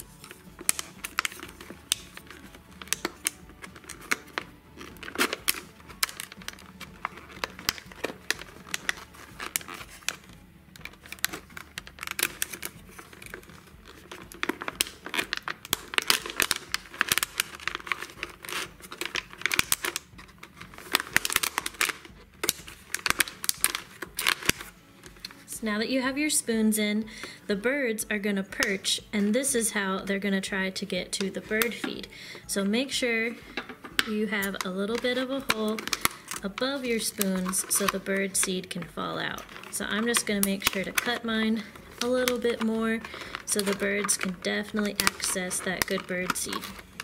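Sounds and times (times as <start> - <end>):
plastic bottle crinkling: 0.0 - 25.5, 27.0 - 27.5, 33.3 - 47.0.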